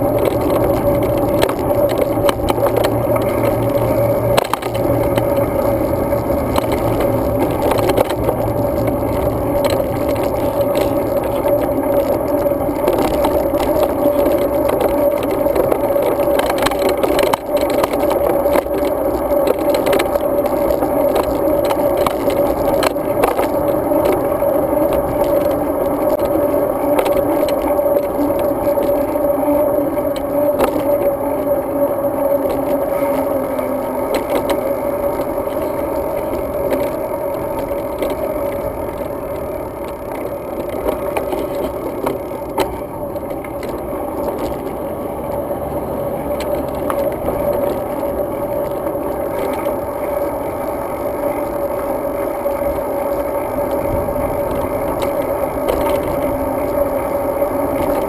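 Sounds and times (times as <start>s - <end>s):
bicycle rattling and clicks: 0.0s - 58.0s
tyre and wind rumble: 0.0s - 58.0s.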